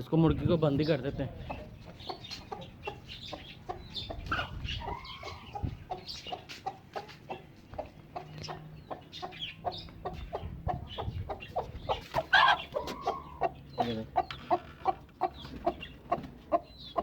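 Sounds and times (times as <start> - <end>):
chicks peeping: 0.3 - 17.0
hen clucking: 0.8 - 17.0.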